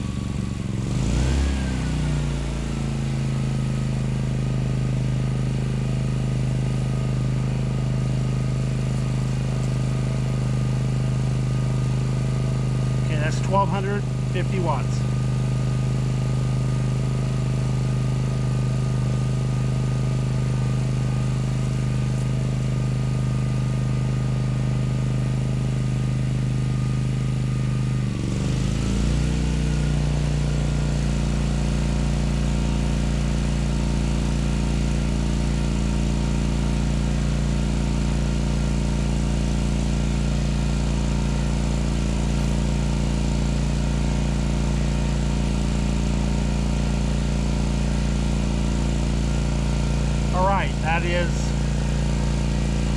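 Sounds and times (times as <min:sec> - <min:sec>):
generator engine running: 0:00.0 - 0:52.9.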